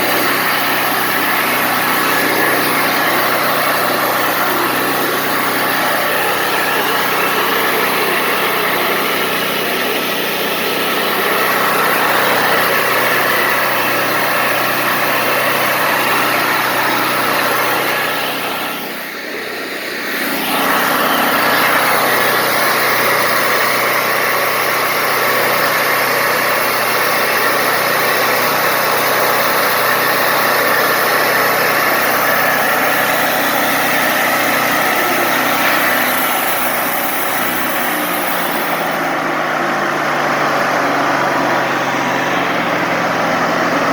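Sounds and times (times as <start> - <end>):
band sawmill running: 0.0 - 43.9.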